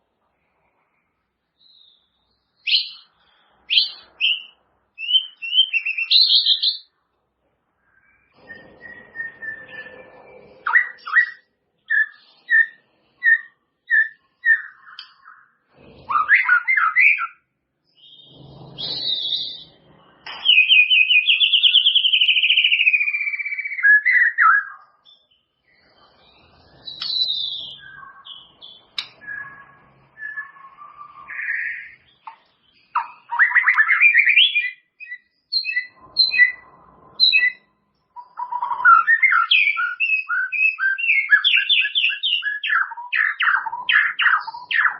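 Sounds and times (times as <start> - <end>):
bird singing whistled song: 1.6 - 6.9, 7.8 - 44.9.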